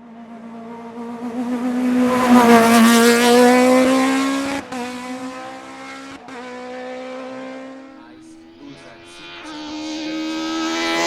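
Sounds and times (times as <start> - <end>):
race car accelerating past: 0.0 - 11.0.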